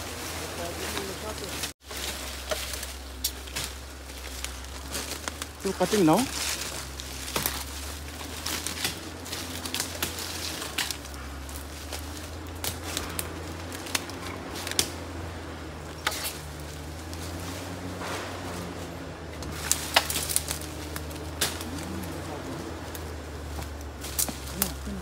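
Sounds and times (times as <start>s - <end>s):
footsteps crunching dry leaves: 0.0s - 25.0s
steady low hum: 0.0s - 25.0s
twigs snapping: 0.9s - 25.0s.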